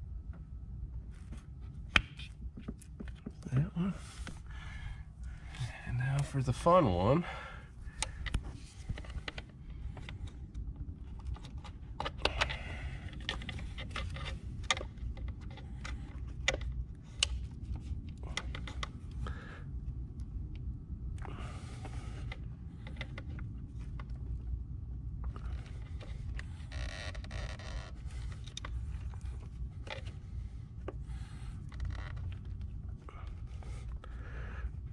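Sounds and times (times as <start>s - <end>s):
low background rumble: 0.0s - 34.9s.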